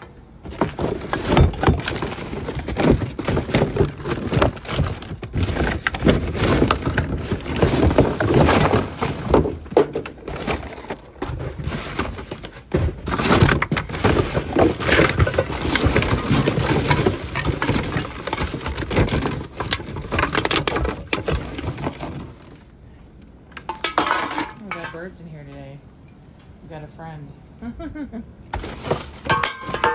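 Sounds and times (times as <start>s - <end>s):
boxes and plastic bags crumpling: 0.0s - 22.7s, 28.6s - 29.9s.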